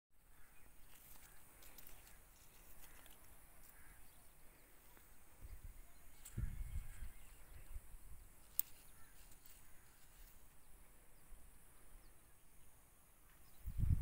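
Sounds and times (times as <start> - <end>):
high ticks and chirps: 0.4 - 12.4.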